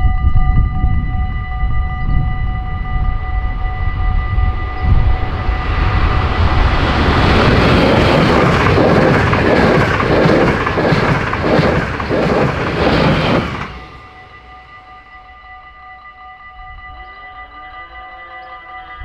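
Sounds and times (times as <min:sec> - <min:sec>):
train passing at speed: 0:00.0 - 0:16.0
level crossing warning bells: 0:00.0 - 0:19.0.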